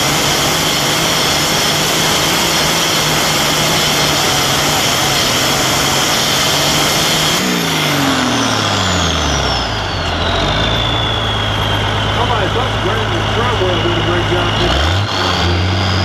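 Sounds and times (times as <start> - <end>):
diesel tractor engine revving: 0.0 - 16.0
turbo whistle: 0.0 - 16.0.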